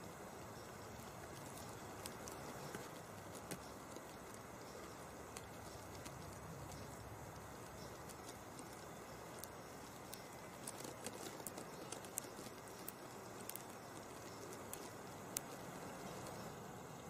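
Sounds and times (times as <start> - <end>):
small clicks and crackles: 0.0 - 16.6
faint background hiss: 0.0 - 17.0.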